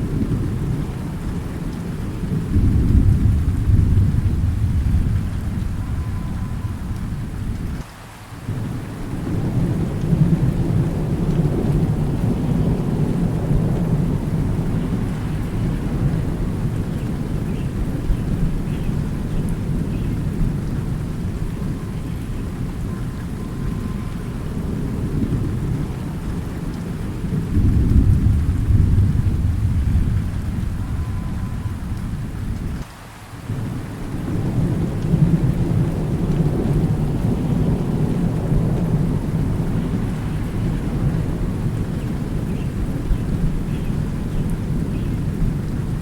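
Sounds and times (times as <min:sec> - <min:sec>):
rolling thunder: 0:00.0 - 0:07.8, 0:08.5 - 0:46.0
steady rain: 0:00.0 - 0:46.0.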